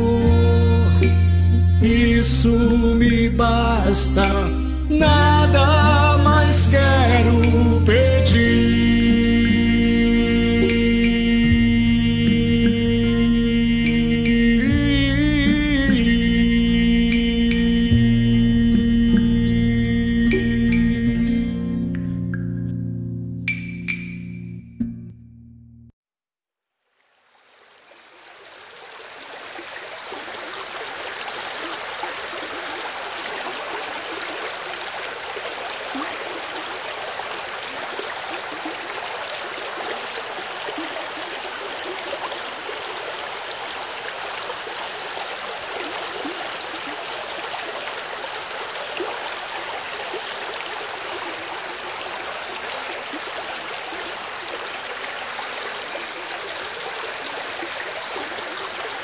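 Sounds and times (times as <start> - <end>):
stream water rushing: 0.0 - 17.9, 26.9 - 59.0.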